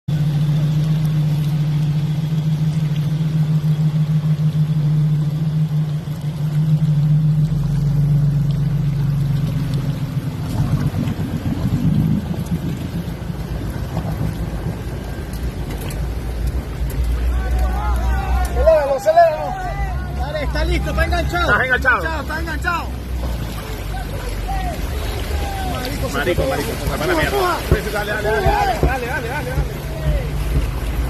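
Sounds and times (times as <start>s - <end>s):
truck engine droning: 0.1s - 31.0s.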